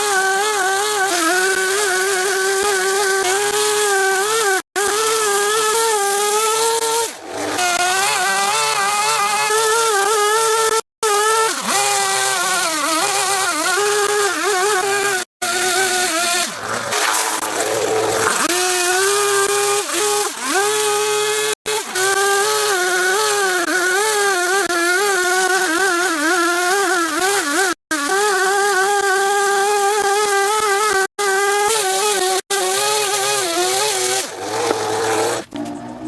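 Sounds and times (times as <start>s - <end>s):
small high-revving engine: 0.0s - 36.0s.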